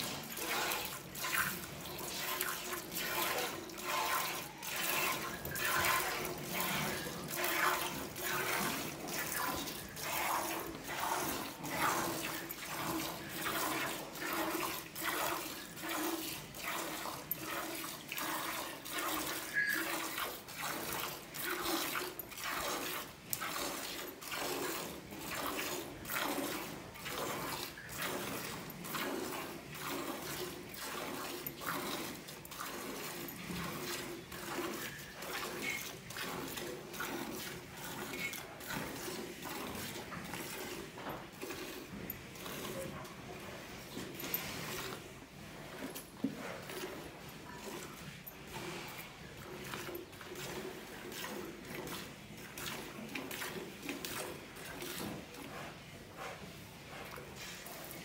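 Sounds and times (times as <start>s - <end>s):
milk squirting into steel pot: 0.0s - 42.8s, 45.7s - 55.0s.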